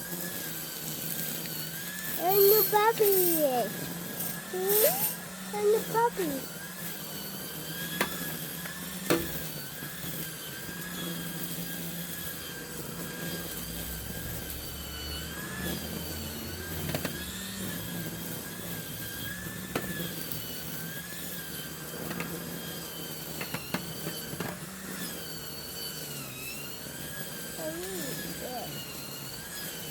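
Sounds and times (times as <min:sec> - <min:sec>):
string trimmer whining: 0:00.0 - 0:29.9.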